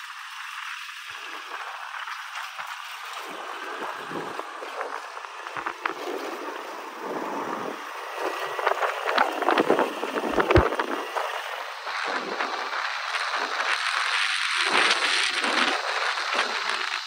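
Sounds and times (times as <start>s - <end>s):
motorbike motor and tyres: 0.0s - 17.0s
wind rushing over microphone: 3.2s - 17.0s.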